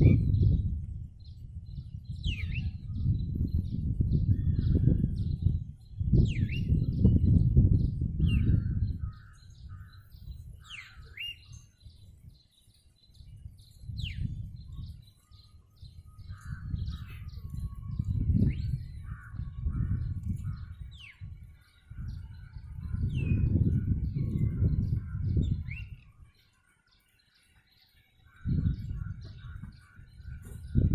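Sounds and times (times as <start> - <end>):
birds chirping and calling: 0.0 - 30.9.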